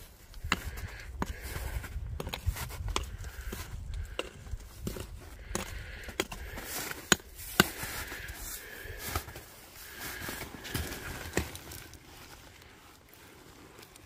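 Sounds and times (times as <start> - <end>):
broken rock crunching: 0.3 - 14.0.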